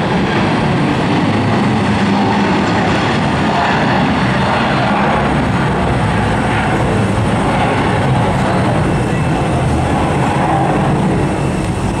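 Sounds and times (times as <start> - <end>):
jet engines roaring at takeoff: 0.0 - 12.0.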